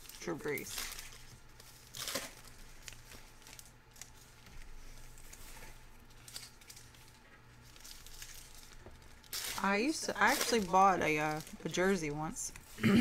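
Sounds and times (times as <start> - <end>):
foil wrapper crinkling: 0.0 - 12.8
low steady hum: 0.0 - 13.0.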